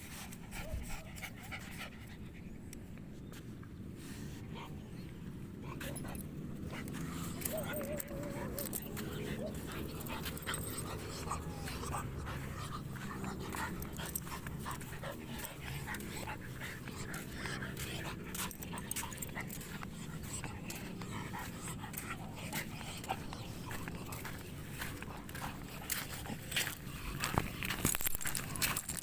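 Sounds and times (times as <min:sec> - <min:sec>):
dog panting: 0:00.0 - 0:02.7, 0:03.9 - 0:29.0
steady low rumble: 0:02.9 - 0:28.8.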